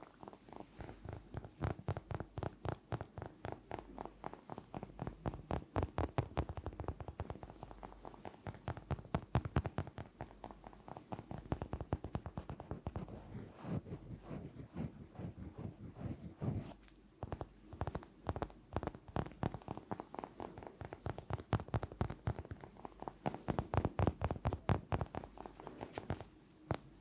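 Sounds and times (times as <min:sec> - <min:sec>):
rapid tapping on hard object: 0:00.8 - 0:13.1, 0:17.2 - 0:26.9.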